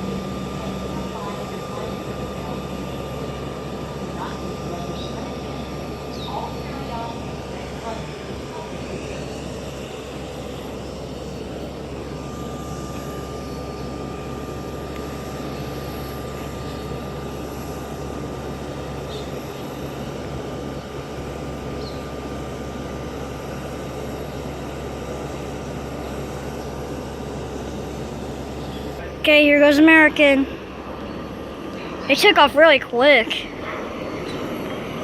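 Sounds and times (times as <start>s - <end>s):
jet engines running: 0.0s - 35.0s
thin high whine: 0.0s - 35.0s.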